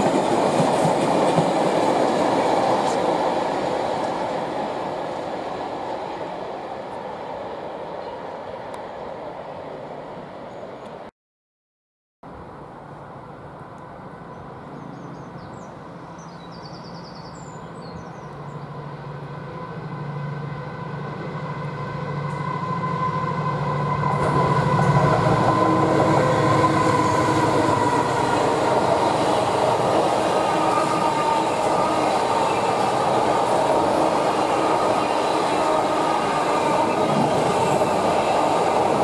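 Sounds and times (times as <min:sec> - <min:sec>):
diesel locomotive engine hum: 0:00.0 - 0:11.1, 0:12.3 - 0:39.0.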